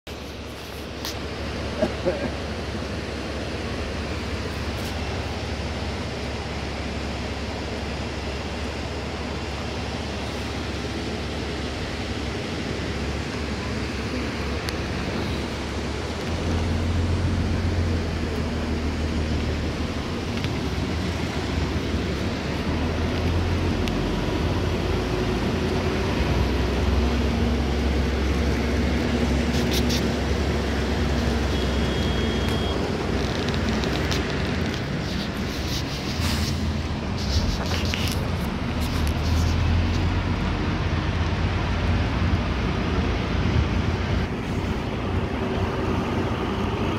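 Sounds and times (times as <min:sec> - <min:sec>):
road and wind noise inside vehicle: 0:00.0 - 0:46.9.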